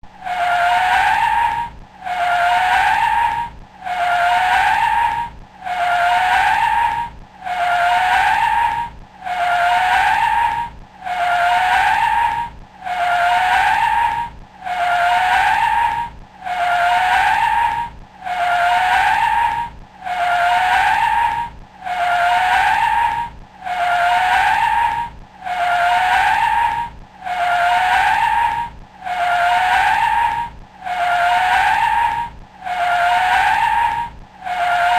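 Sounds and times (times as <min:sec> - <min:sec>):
car tyres screeching: 0:00.0 - 0:34.9.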